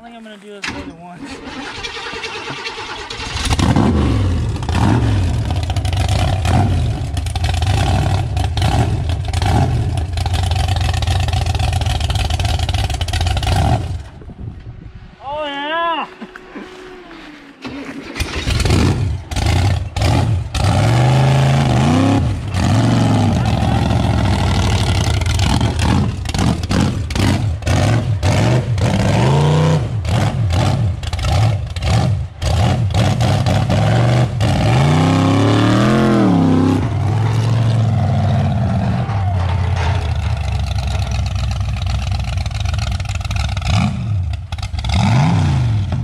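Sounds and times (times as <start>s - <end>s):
truck engine revving under load: 1.2s - 14.3s, 16.4s - 46.0s.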